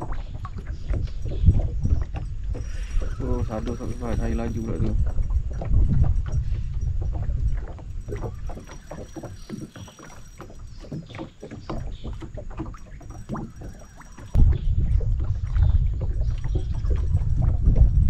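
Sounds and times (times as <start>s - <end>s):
wind rumble on microphone: 0.0s - 9.8s, 10.4s - 18.0s
water lapping against boat hull: 0.0s - 18.0s.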